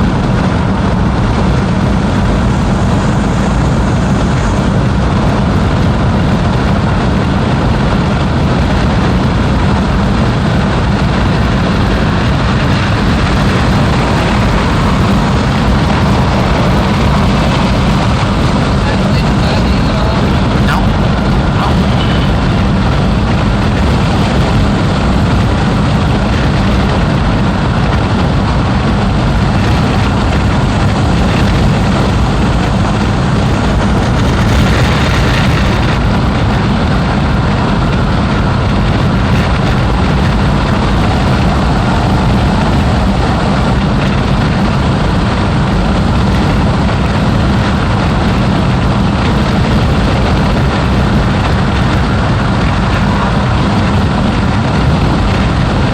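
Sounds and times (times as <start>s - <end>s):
car engine rumble: 0.0s - 55.9s.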